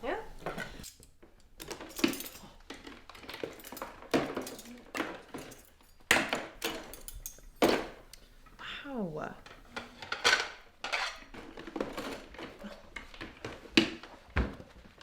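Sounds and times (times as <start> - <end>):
dishes and cutlery clinking: 0.4 - 8.4, 9.4 - 14.6
dishes clattering: 1.6 - 8.1, 9.4 - 15.0.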